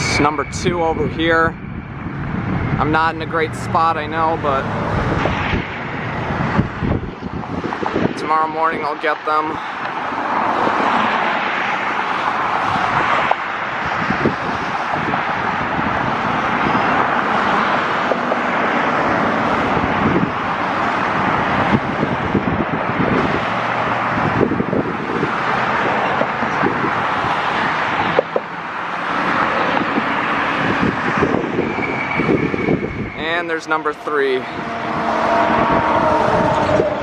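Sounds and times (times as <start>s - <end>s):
jet engines roaring past: 0.0s - 37.0s
wind buffeting microphone: 0.0s - 37.0s.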